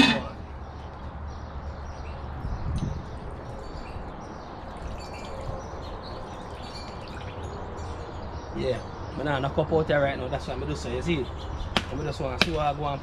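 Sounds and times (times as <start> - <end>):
birds chirping faintly: 0.0 - 13.0
outdoor background noise: 0.0 - 13.0.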